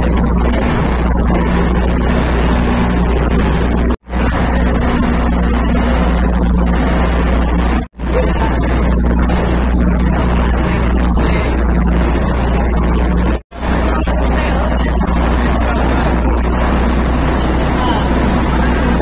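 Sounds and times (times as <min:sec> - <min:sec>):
boat engine drone: 0:00.0 - 0:19.0.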